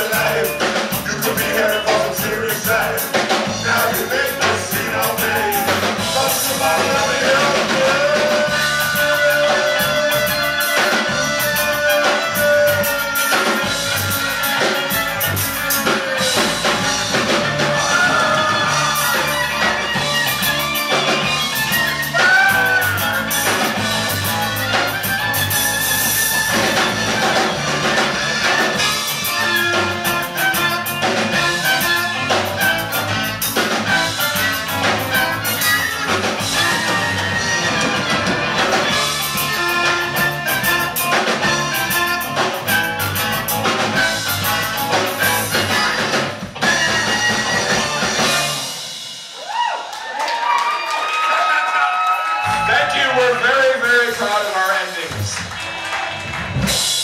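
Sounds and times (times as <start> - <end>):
electric guitar: 0.0 - 49.2, 54.4 - 57.0
drum kit beat: 0.0 - 50.6, 52.0 - 57.0.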